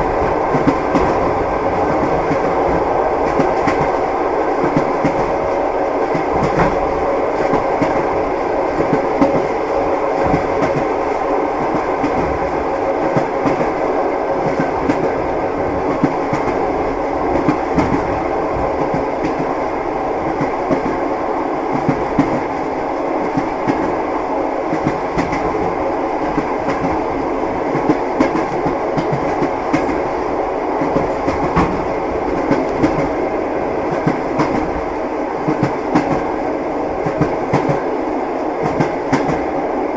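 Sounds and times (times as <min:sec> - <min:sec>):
train wheels clacking: 0:00.0 - 0:15.2, 0:15.8 - 0:21.0, 0:24.7 - 0:30.2, 0:30.8 - 0:33.2, 0:33.9 - 0:36.4, 0:37.0 - 0:37.9, 0:38.6 - 0:39.5.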